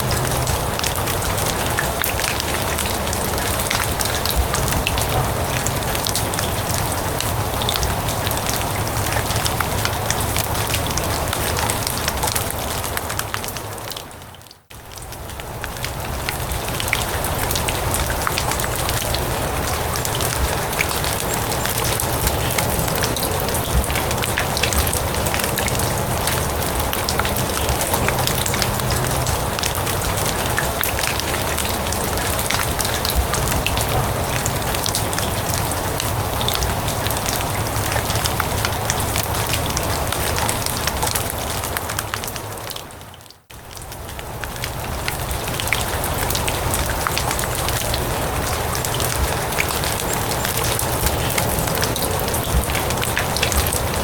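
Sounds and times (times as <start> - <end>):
rain falling on grass: 0.0 - 54.0.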